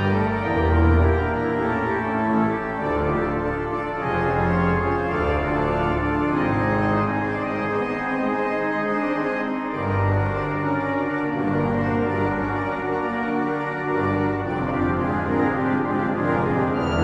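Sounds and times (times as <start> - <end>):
organ music: 0.0 - 17.0.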